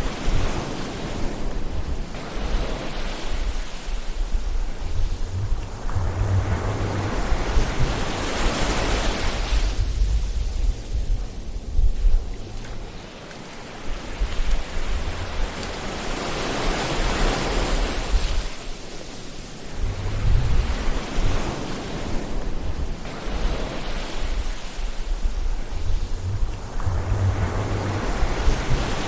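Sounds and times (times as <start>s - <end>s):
ocean waves washing in: 0.0s - 29.0s.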